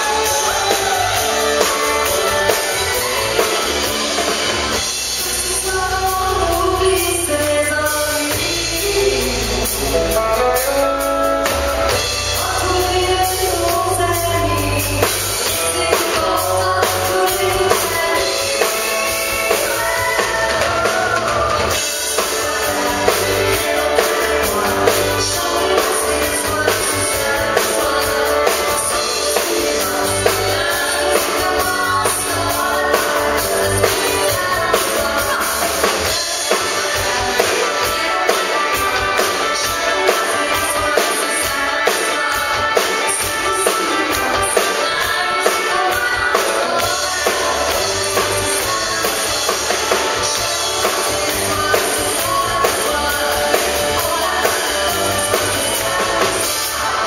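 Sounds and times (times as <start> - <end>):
bass: 0.0 - 57.0
drum kit: 0.0 - 57.0
electric guitar: 0.0 - 57.0
woman singing into a microphone: 5.2 - 10.9, 11.9 - 57.0.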